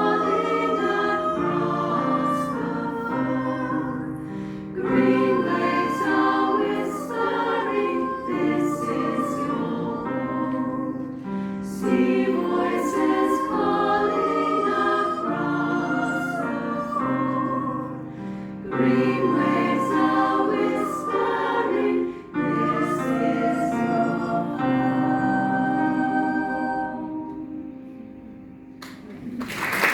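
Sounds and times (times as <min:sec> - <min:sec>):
choir singing folk song: 0:00.0 - 0:28.4.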